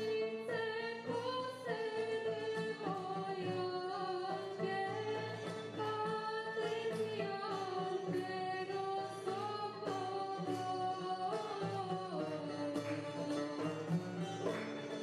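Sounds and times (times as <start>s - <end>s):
woman singing folk song: 0.0s - 14.6s
fretted lute picking: 0.0s - 15.0s.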